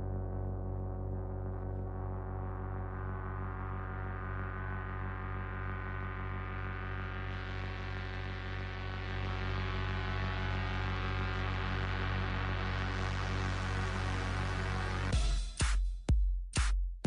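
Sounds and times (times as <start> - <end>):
electronic droning music: 0.0 - 15.5.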